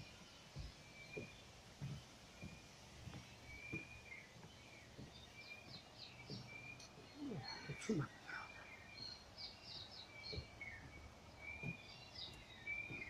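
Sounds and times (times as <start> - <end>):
soft low thumps: 0.0 - 8.2, 8.9 - 13.0
faint birdsong: 0.0 - 13.0.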